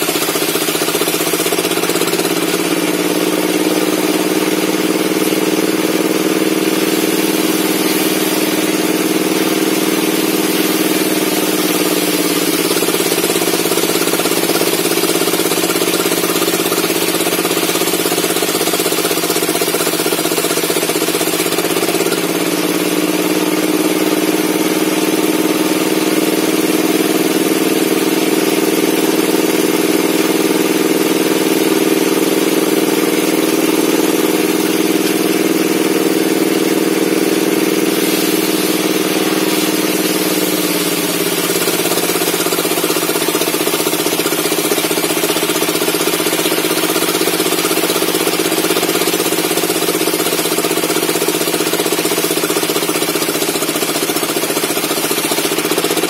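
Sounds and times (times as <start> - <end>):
circular log saw cutting: 0.0 - 56.0.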